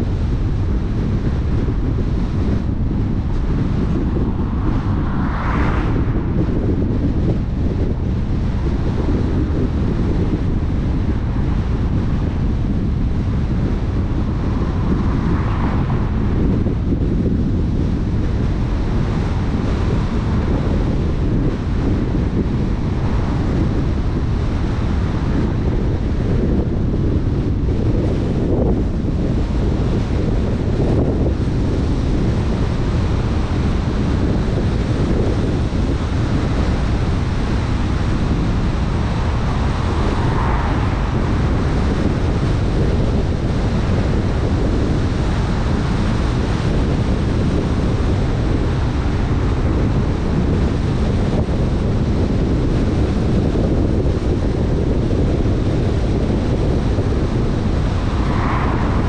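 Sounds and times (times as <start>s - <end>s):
vehicle road noise: 0.0s - 59.0s
wind buffeting microphone: 0.0s - 59.0s.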